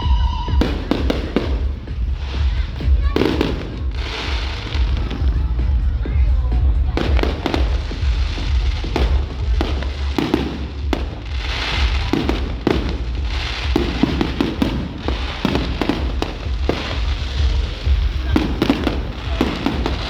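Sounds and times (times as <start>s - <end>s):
firework bangs and pops: 0.0s - 20.0s
fireworks crackling: 0.0s - 20.0s
low rumble: 0.0s - 20.0s.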